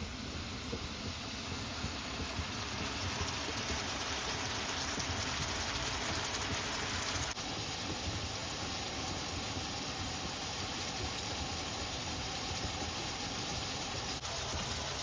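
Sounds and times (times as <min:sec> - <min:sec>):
water boiling: 0:00.0 - 0:15.0
sauce simmering: 0:00.1 - 0:15.0.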